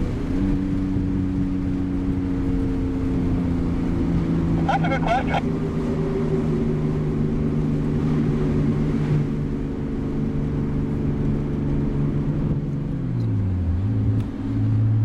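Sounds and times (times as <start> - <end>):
car engine cruising: 0.0 - 15.0.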